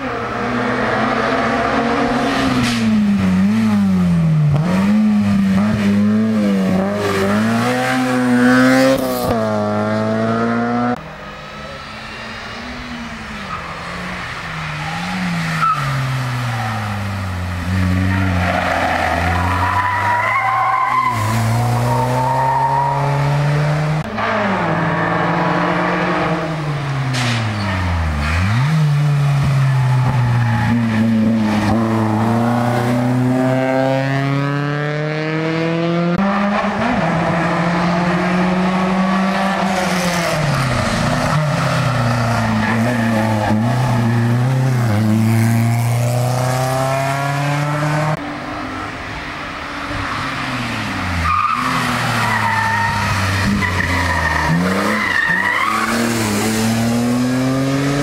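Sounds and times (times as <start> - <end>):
race car engine revving: 0.0 - 11.1, 12.1 - 48.2, 49.9 - 58.0.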